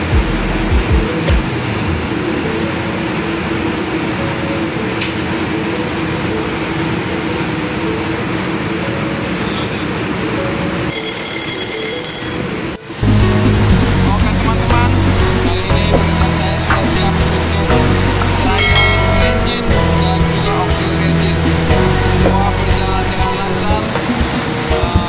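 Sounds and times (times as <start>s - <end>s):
diesel engine room din: 0.0s - 25.0s
high steady whine: 0.0s - 25.0s.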